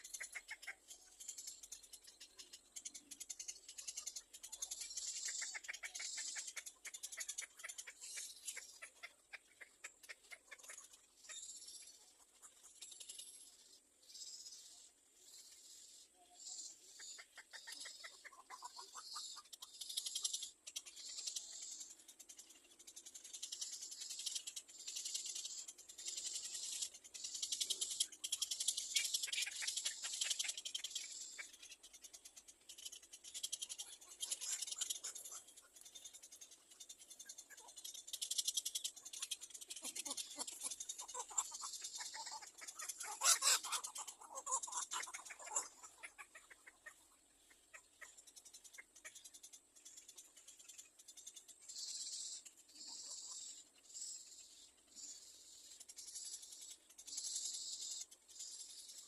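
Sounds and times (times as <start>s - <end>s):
nestling birds cheeping: 0.0s - 59.0s.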